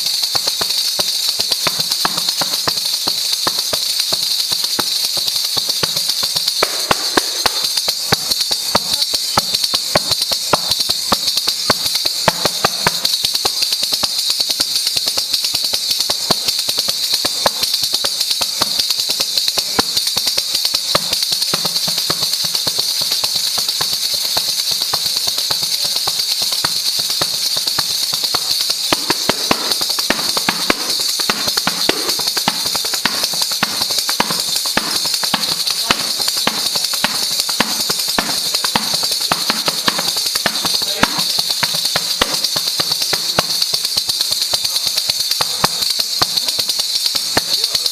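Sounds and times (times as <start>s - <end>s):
tambourine jingles in fast rhythm: 0.0s - 47.9s.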